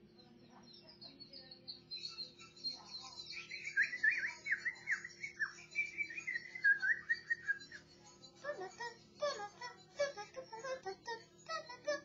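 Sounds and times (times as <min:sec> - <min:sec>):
birds twittering: 0:00.0 - 0:12.0
downward-swooping bird chirps: 0:00.0 - 0:12.0.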